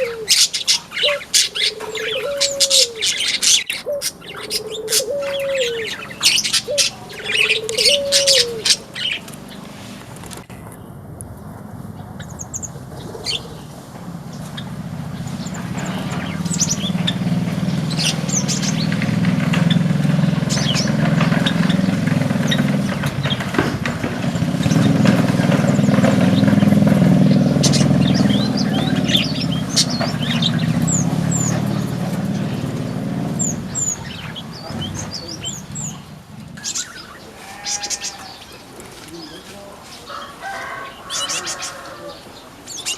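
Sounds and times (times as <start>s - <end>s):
vehicle engine running low: 0.0s - 37.6s
small birds chirping: 0.0s - 42.9s.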